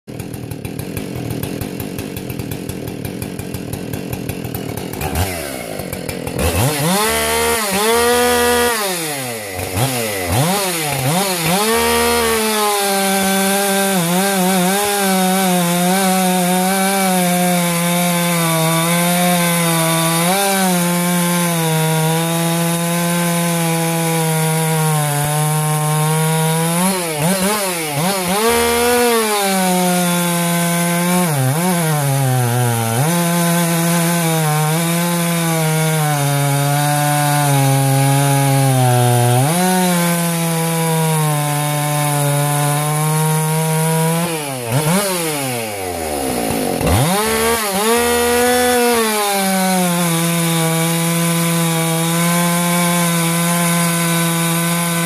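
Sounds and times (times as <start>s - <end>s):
chainsaw cutting into log: 0.0s - 55.0s
chainsaw idling and revving: 0.0s - 55.0s.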